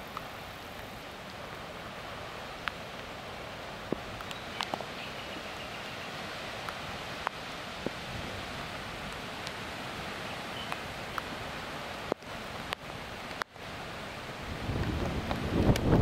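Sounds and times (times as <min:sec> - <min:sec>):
heavy rain and streaming water: 0:00.0 - 0:16.0.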